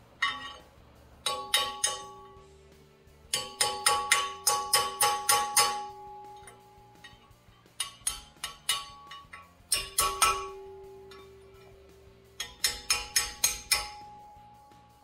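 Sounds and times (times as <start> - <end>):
hammer striking chisel on steel: 0.0 - 2.5, 3.2 - 14.9.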